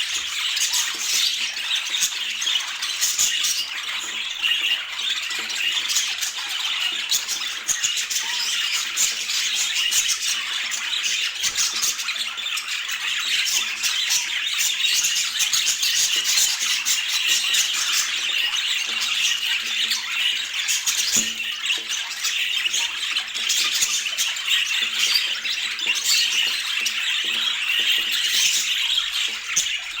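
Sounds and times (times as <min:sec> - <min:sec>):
budgerigars chattering: 0:00.0 - 0:30.0.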